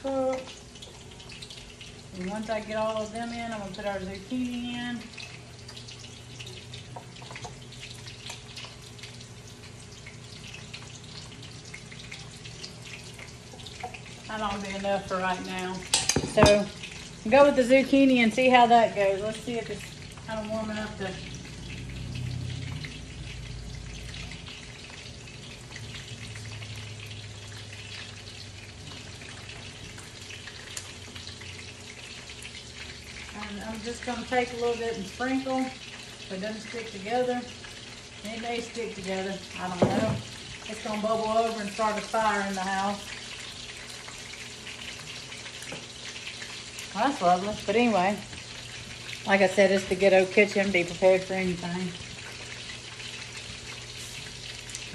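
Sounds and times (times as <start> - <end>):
low steady hum: 0.0 - 54.9
shrimp frying in hot grease: 0.0 - 54.9.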